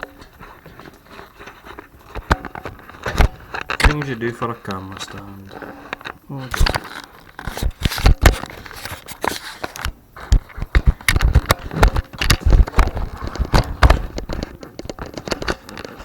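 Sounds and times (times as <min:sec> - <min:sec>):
objects being handled and shifted: 0:00.0 - 0:16.0.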